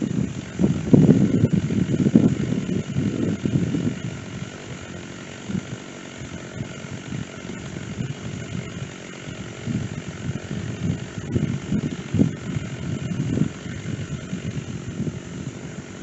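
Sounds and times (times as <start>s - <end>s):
chainsaw running at low revs: 0.0s - 16.0s.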